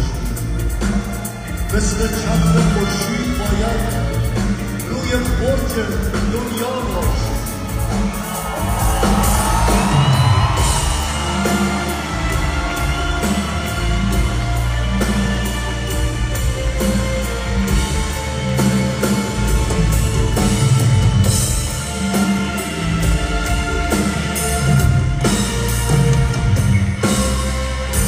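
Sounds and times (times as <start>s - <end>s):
bass: 0.0s - 28.0s
steady drum beat: 0.0s - 28.0s
sustained instrumental melody: 0.0s - 28.0s.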